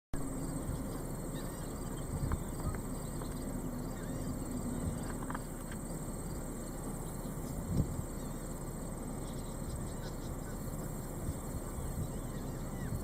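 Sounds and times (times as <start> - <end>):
wind buffeting the microphone: 0.2 - 13.0.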